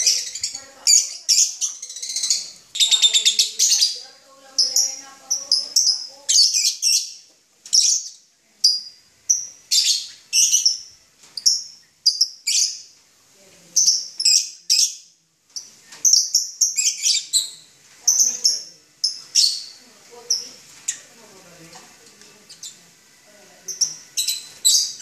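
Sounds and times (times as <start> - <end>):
lovebirds chirping shrilly: 0.0 - 12.9, 13.7 - 21.3, 23.6 - 25.0.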